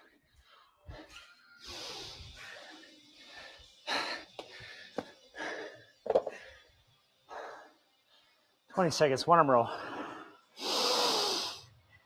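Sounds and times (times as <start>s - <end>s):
people breathing heavily: 0.0s - 8.7s, 9.6s - 11.9s.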